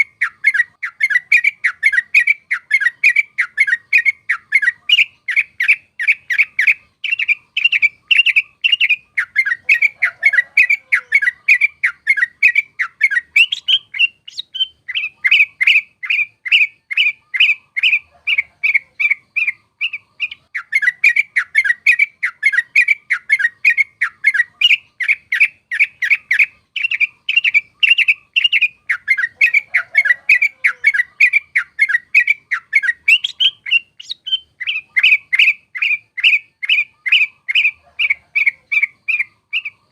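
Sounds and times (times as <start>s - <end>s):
bird's rolling chatter: 0.0s - 39.9s.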